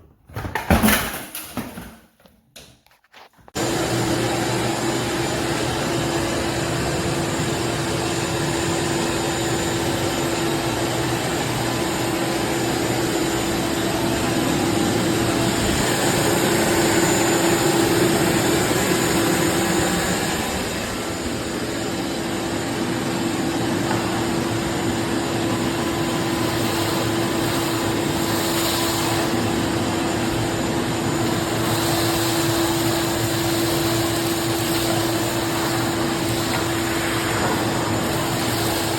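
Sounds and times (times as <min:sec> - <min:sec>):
shop vacuum running: 0:03.1 - 0:38.9.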